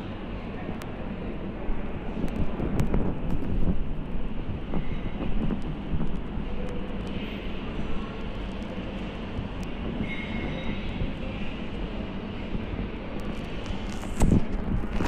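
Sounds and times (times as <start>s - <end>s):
ceiling fans running: 0.0s - 15.0s.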